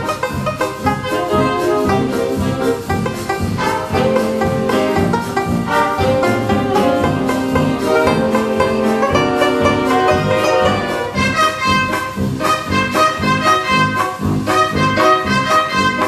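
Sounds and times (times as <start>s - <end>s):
dance band playing hot jazz: 0.0s - 16.0s.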